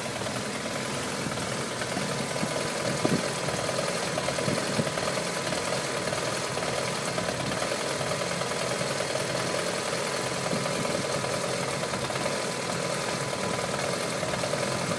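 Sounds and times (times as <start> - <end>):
motorcycle engine idling roughly: 0.0 - 14.9.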